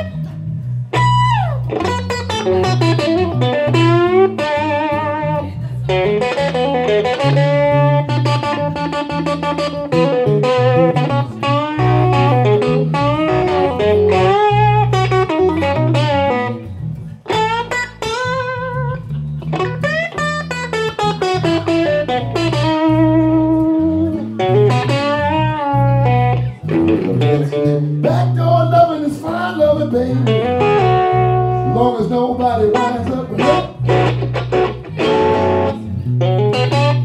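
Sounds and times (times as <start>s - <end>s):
electric bass line: 0.0s - 37.0s
electric guitar solo: 0.0s - 37.0s.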